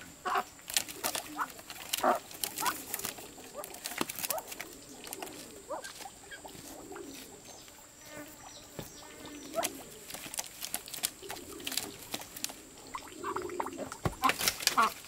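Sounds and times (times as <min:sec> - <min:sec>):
clicks and rustling on bamboo: 0:00.0 - 0:07.8, 0:08.8 - 0:15.0
geese calling softly: 0:00.0 - 0:10.3, 0:11.1 - 0:15.0.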